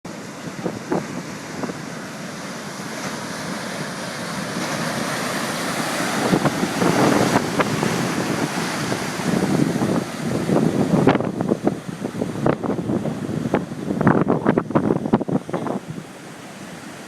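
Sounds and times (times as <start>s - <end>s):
wind buffeting microphone: 0.1s - 16.2s
surf breaking heavily: 0.1s - 17.0s.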